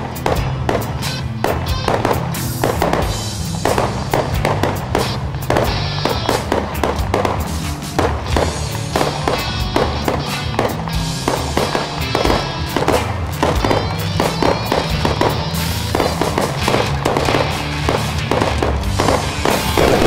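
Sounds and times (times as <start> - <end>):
background music: 0.0 - 20.0
fireworks bangs and crackles: 0.0 - 20.0.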